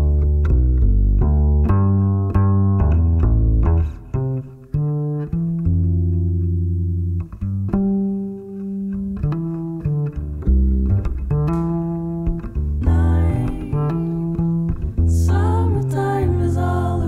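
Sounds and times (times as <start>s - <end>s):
double bass plucked notes: 0.0s - 17.0s.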